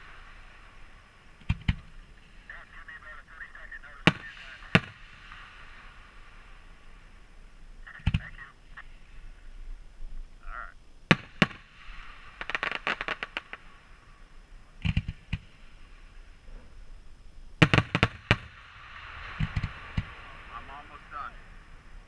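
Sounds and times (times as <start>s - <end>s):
fireworks banging: 0.0s - 9.3s, 11.1s - 17.0s, 17.6s - 22.0s
fireworks hissing: 0.0s - 22.0s.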